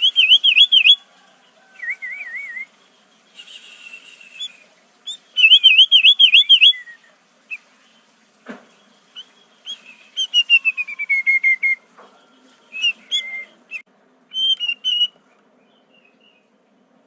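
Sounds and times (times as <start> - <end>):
bulbul whistled song: 0.0 - 1.1, 1.8 - 7.7, 8.6 - 16.5.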